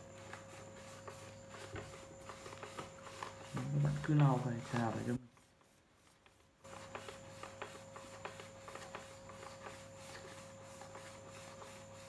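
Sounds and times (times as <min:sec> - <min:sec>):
steady hum: 0:00.0 - 0:12.0
tissue scratching print head: 0:00.0 - 0:12.0.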